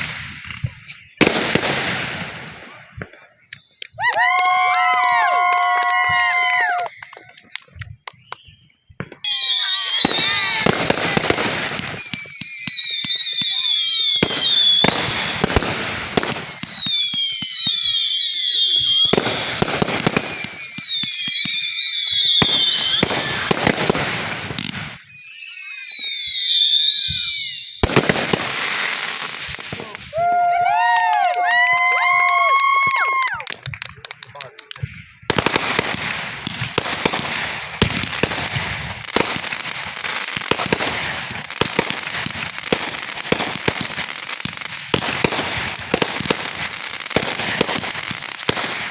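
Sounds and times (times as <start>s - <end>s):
fireworks crackling: 0.0s - 48.9s
whistling fireworks: 0.0s - 48.9s.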